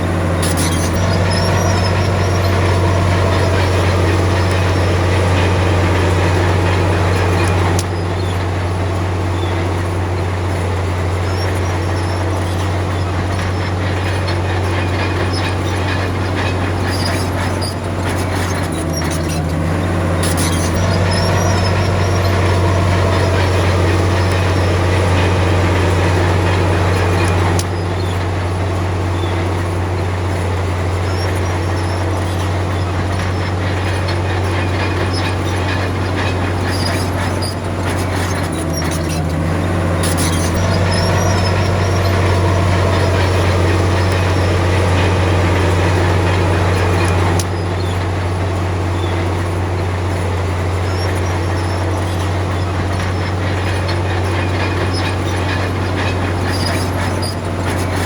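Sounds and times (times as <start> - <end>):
bulldozer diesel engine running: 0.0 - 58.0
steel tracks clanking: 0.0 - 58.0.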